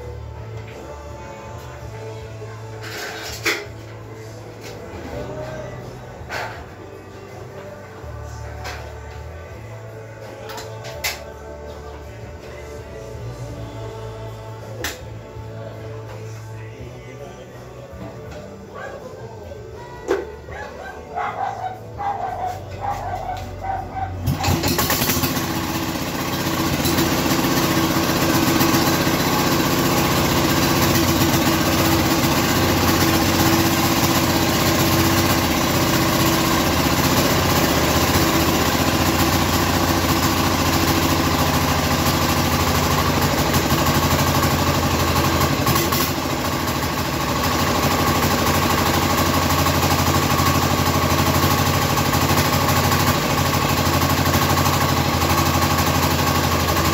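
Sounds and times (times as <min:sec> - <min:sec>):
diesel engine starting and running: 0:00.0 - 0:18.9, 0:19.5 - 0:56.9.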